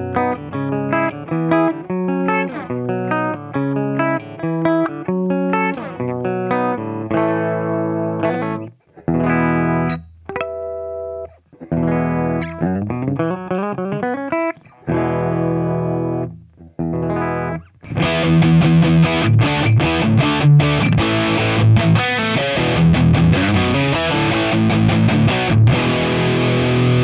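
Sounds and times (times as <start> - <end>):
electric guitar notes and chords: 0.0 - 27.0.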